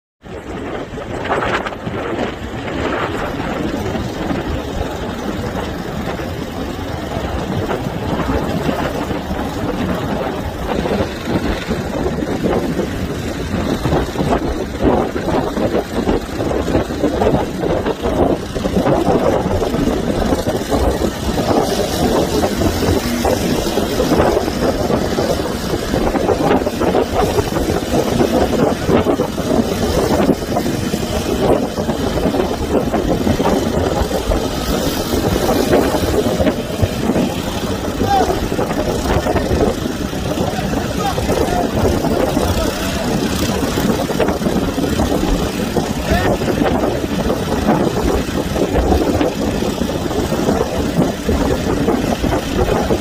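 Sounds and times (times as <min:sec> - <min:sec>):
boat engine running: 0:00.2 - 0:53.0.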